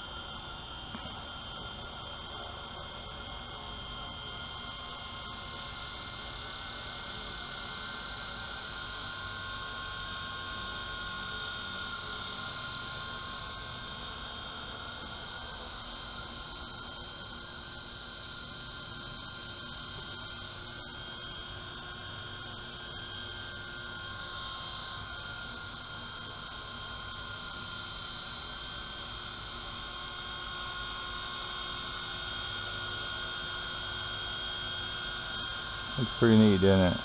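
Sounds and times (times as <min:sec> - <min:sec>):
rc helicopter rotor whine: 0:00.0 - 0:37.0.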